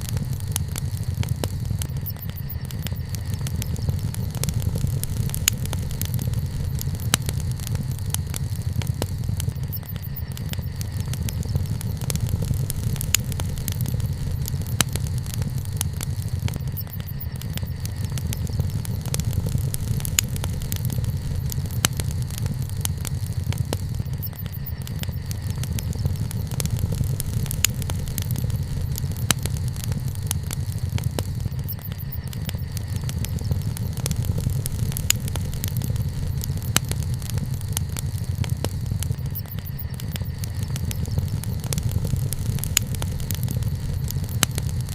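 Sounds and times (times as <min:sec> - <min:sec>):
low bonfire rumble: 0:00.0 - 0:44.9
wood fire crackling: 0:00.0 - 0:44.9.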